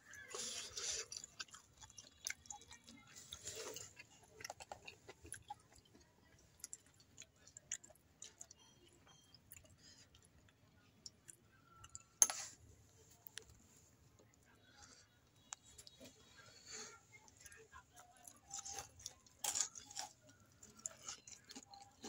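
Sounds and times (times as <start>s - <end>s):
close-up chewing of fried food: 0.1s - 12.2s, 14.2s - 22.0s.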